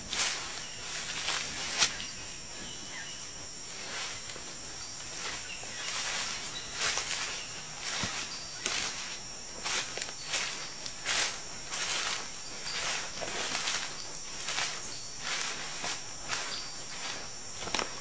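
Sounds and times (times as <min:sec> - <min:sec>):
footsteps through undergrowth: 0:00.0 - 0:18.0
insects chirring: 0:00.0 - 0:18.0.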